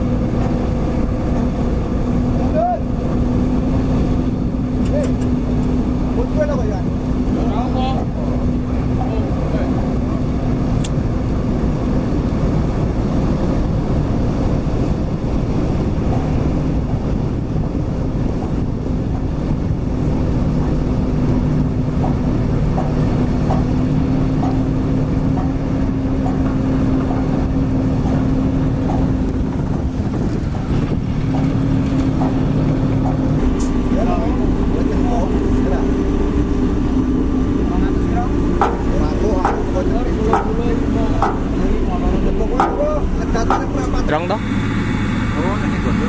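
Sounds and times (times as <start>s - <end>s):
diesel engine running steadily: 0.0s - 46.0s.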